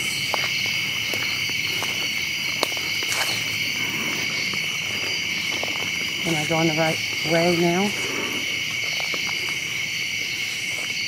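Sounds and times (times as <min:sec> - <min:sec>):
crickets and night insects: 0:00.0 - 0:11.0.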